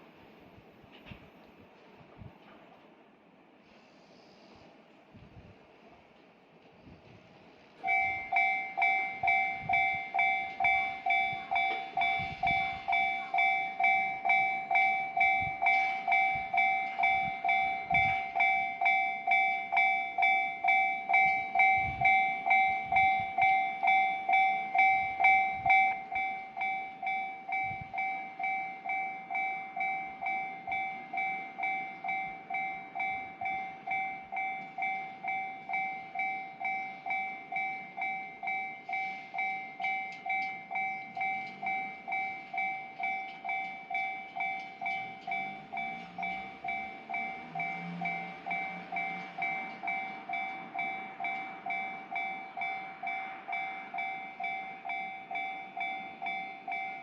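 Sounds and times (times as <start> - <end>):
level-crossing warning bell ringing: 7.8 - 57.0.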